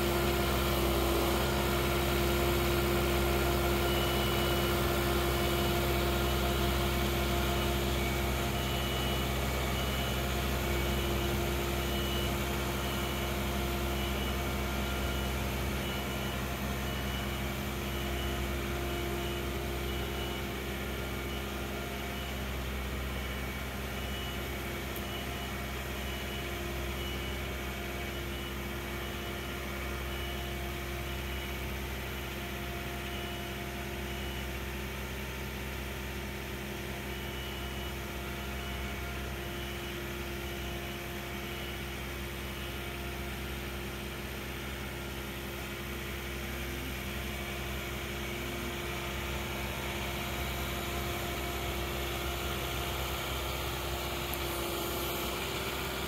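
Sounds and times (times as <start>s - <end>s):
tractor diesel engine running: 0.0s - 56.0s
high beep: 1.7s - 34.8s, 36.4s - 56.0s.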